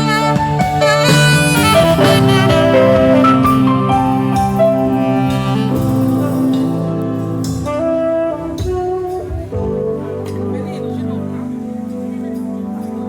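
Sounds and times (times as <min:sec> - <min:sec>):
live band playing: 0:00.0 - 0:13.0
saxophone melody: 0:00.0 - 0:13.0.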